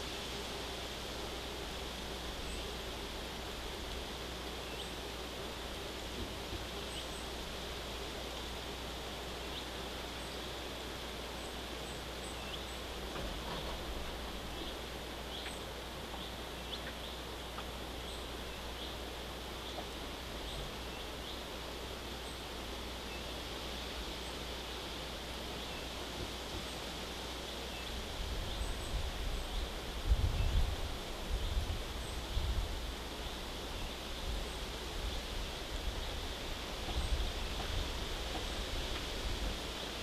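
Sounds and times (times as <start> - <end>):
steady hiss: 0.0 - 40.0.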